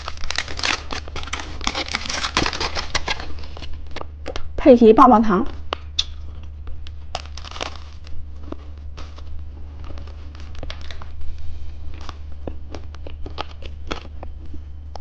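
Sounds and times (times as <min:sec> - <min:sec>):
plastic packaging crinkling: 0:00.0 - 0:04.2, 0:05.9 - 0:14.4
steady low hum: 0:00.0 - 0:15.0.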